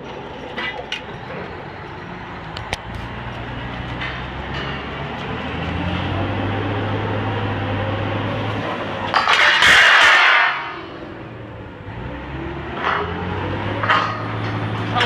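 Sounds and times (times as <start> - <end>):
diesel engine running: 0.0 - 9.4, 10.4 - 15.0.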